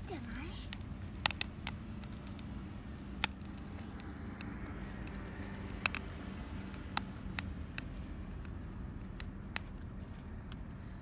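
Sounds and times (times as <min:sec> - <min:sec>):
sharp pops of burning wood: 0:00.0 - 0:09.8
campfire wood crackling: 0:00.0 - 0:11.0
steady low hum: 0:00.0 - 0:11.0.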